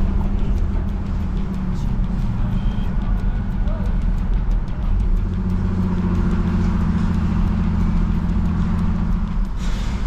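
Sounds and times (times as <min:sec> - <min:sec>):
faint high ticking: 0:00.0 - 0:09.8
car engine humming: 0:00.0 - 0:10.0.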